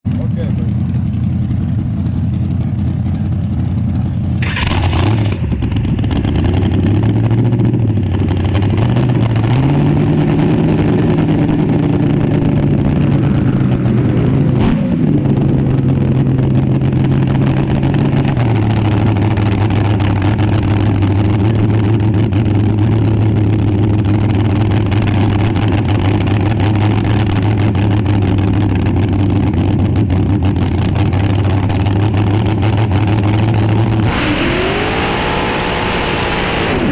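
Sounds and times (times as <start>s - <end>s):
dragster engine idling loudly: 0.1s - 34.0s.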